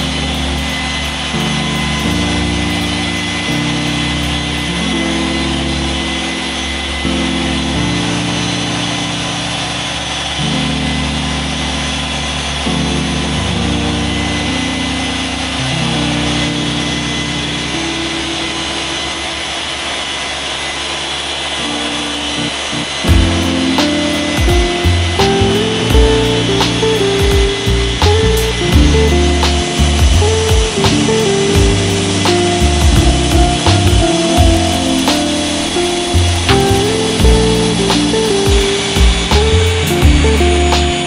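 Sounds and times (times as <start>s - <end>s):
background music: 0.0s - 19.6s, 22.3s - 41.0s
polisher whining: 0.0s - 41.0s.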